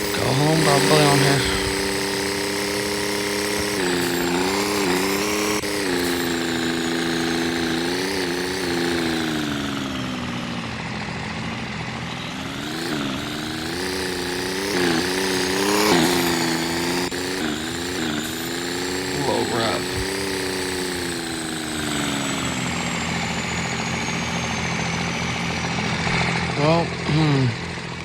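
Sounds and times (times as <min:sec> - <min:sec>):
truck engine driving off: 0:00.0 - 0:28.0.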